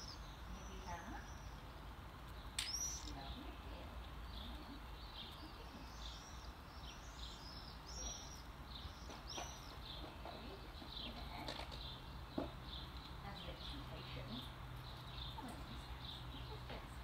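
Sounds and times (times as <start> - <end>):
low outdoor hum: 0.0 - 17.0
songbird chirping: 0.0 - 17.0.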